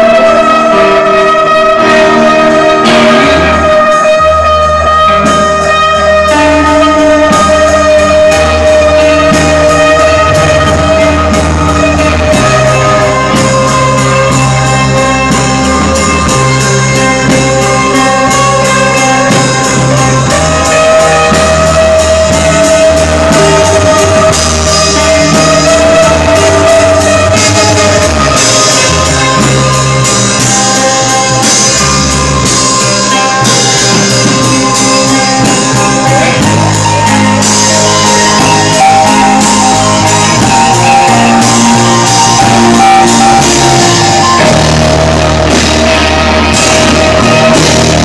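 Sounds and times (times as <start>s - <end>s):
bass notes: 0.0s - 48.0s
drums with cymbals: 0.0s - 48.0s
guitar long held notes: 0.0s - 48.0s
live band playing: 0.0s - 48.0s.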